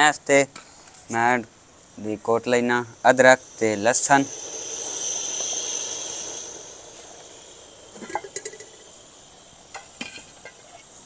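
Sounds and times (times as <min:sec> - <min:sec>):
soft rushing hiss: 0:00.0 - 0:11.0
crickets chirping: 0:00.6 - 0:11.0.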